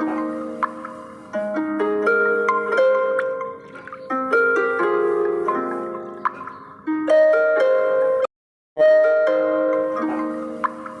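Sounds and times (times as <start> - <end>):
plucked harp-like string music: 0.0 - 11.0.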